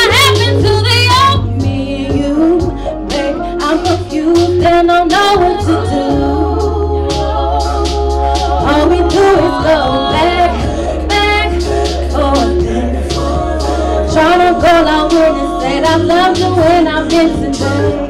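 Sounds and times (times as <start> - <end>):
bass line: 0.0 - 18.0
woman singing: 0.0 - 18.0.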